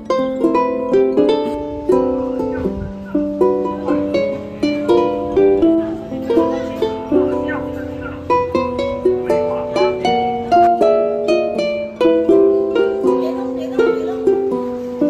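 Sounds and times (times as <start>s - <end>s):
plucked-string melody: 0.0s - 15.0s.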